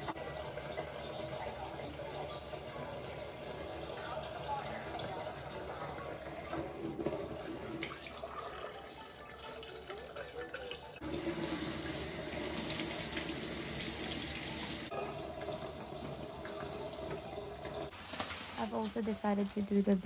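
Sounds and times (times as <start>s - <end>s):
tap water splashing into sink: 0.0s - 17.9s.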